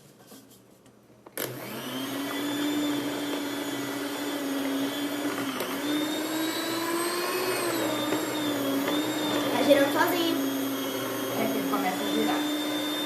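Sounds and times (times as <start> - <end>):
stand mixer motor running: 1.4 - 13.0.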